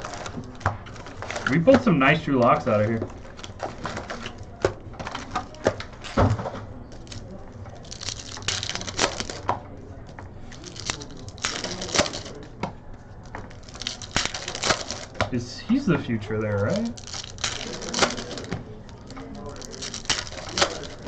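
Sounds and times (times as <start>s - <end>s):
plastic packaging crinkling: 0.0s - 21.0s
trading cards being handled: 0.0s - 21.0s.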